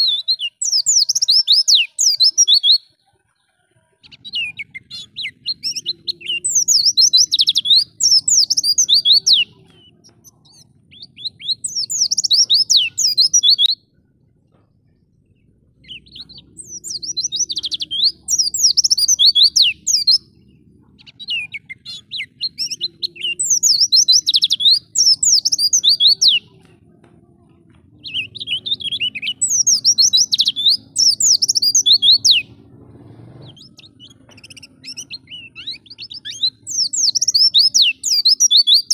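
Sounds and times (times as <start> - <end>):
bird twittering: 0.0 - 3.0, 4.0 - 14.0, 15.2 - 26.6, 28.0 - 32.6, 33.5 - 38.9.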